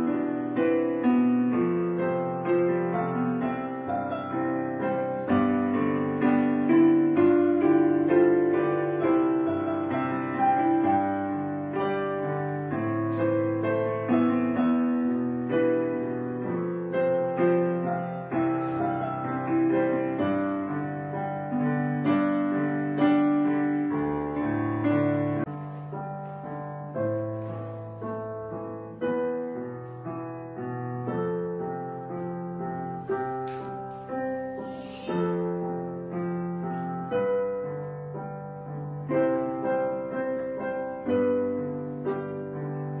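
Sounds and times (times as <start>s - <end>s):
slow solo piano music: 0.0s - 43.0s.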